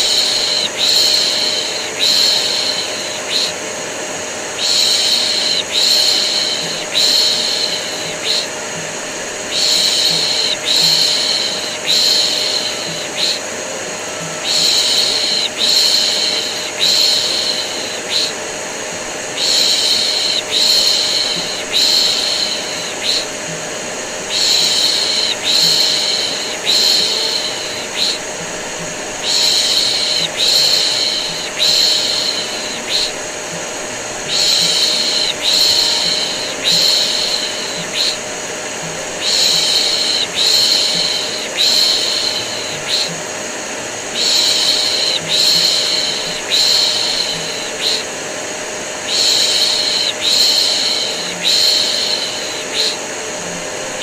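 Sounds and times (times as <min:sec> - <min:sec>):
vacuum cleaner humming: 0:00.0 - 0:54.0.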